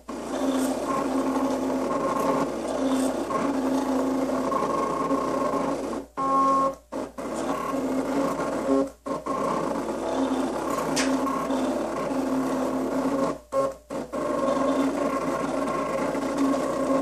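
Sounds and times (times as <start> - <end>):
cutting machine motors whirring: 0.0 - 17.0.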